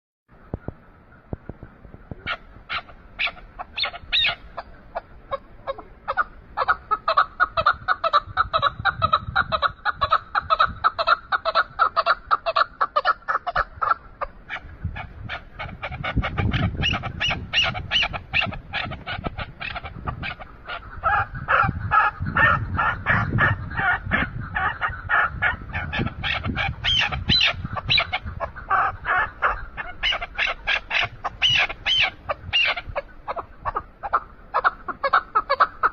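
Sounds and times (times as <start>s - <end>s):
partridge calling rapid chuk notes: 2.2s - 35.9s.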